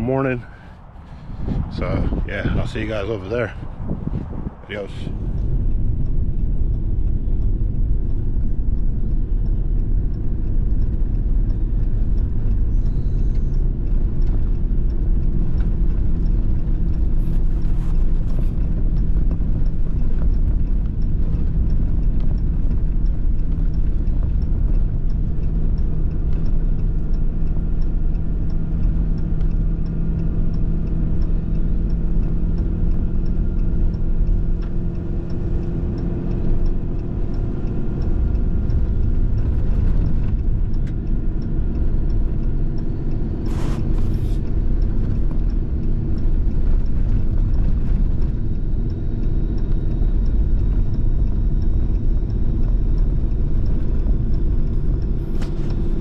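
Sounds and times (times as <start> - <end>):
steady engine hum: 0.0 - 56.0
truck rumble from inside cab: 0.0 - 56.0.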